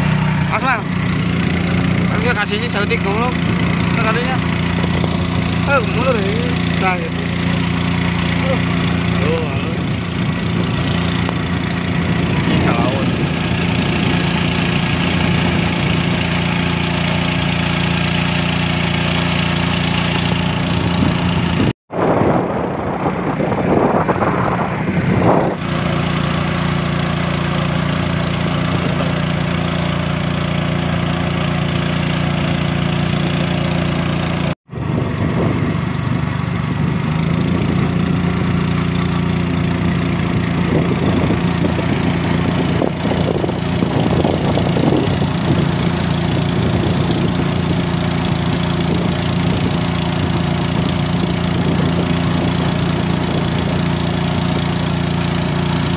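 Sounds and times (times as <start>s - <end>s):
motorboat engine humming: 0.0s - 55.9s.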